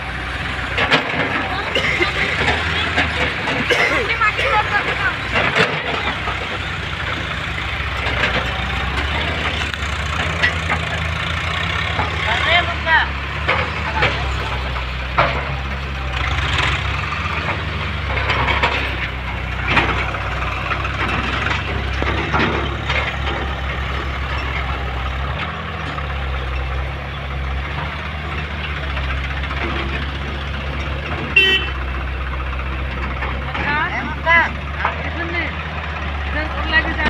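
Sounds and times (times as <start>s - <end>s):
diesel engine droning: 0.0s - 37.0s
knocks and clanks: 0.2s - 37.0s.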